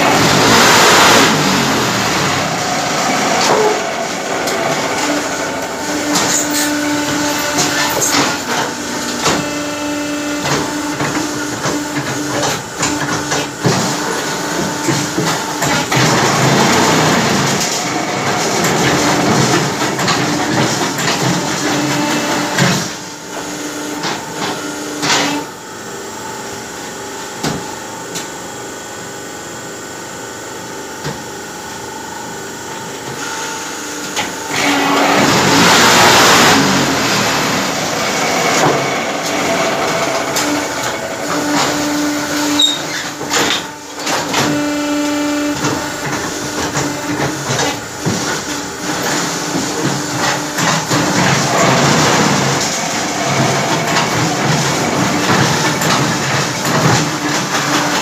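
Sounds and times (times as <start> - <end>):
machine knocks and clanks: 0.0 - 9.7, 10.3 - 25.5, 34.0 - 44.8, 45.5 - 58.0
machine humming: 0.0 - 58.0.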